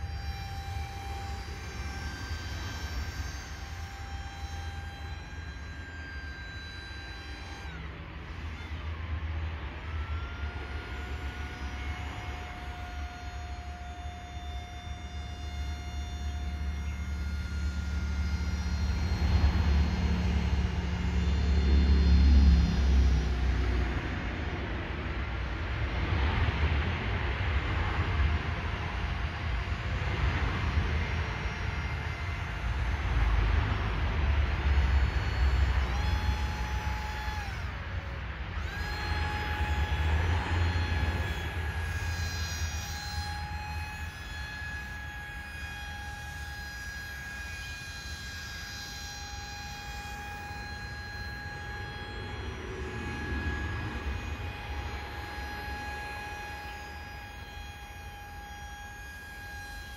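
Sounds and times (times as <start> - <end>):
model paramotor propeller whining: 0.0 - 59.9.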